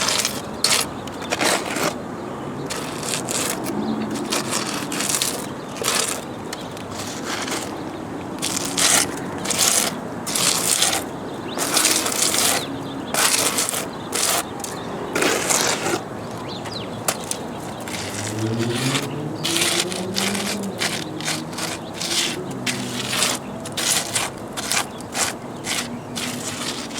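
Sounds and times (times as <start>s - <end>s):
wet concrete scraping on stone: 0.0s - 2.0s, 2.6s - 26.9s.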